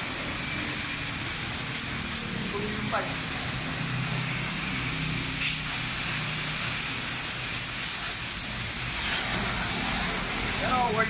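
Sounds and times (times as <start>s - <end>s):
pressure washer spraying water: 0.0s - 11.0s.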